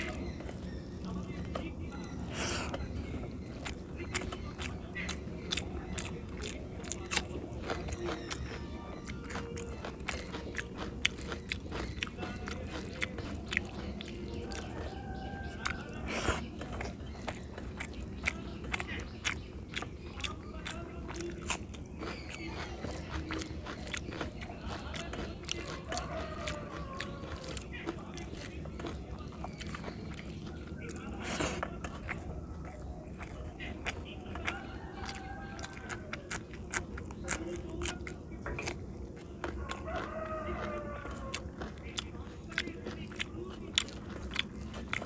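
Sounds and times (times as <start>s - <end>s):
person chewing and lip smacking: 0.0s - 45.0s.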